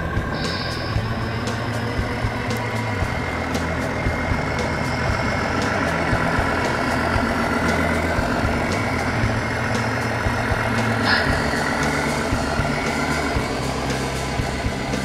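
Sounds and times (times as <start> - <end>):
truck engine through small speaker: 0.0 - 15.0.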